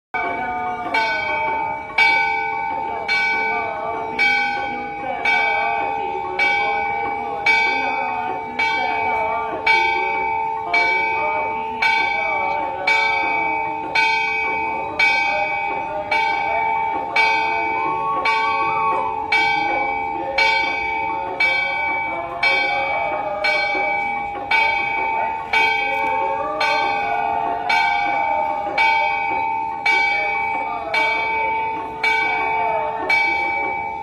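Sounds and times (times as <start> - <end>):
temple bell ringing: 0.2 - 34.0
voices chanting: 0.2 - 34.0.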